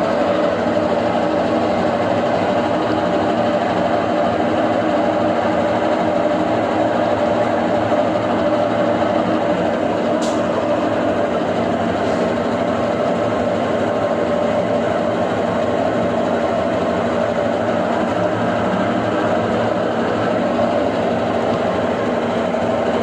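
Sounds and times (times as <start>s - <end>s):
washing machine droning: 0.0s - 23.0s.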